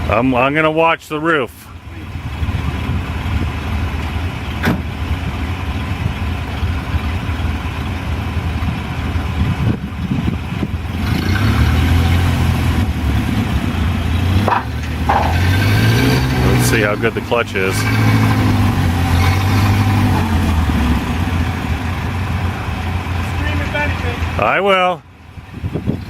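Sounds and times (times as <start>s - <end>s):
car engine running: 1.6s - 26.0s.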